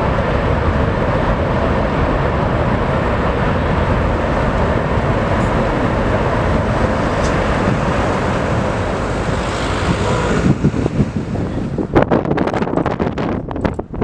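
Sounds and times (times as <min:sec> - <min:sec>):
jet engine noise: 0:00.0 - 0:14.0
wind buffeting microphone: 0:00.0 - 0:14.0.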